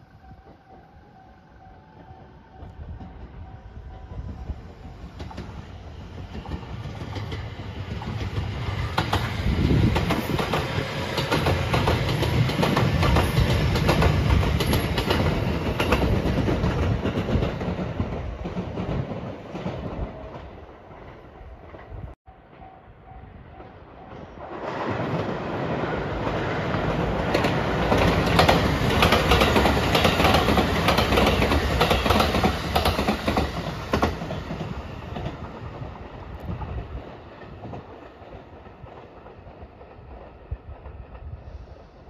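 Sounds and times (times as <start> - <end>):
electric train passing: 0.0 - 42.0
wheels clicking over rail joints: 2.0 - 20.6, 26.2 - 41.3.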